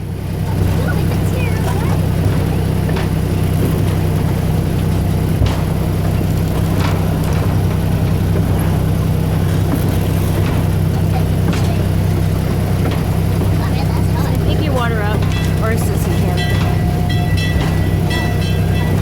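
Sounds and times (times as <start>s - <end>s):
running gear clacks: 0.0s - 19.0s
train engine drone: 0.0s - 19.0s.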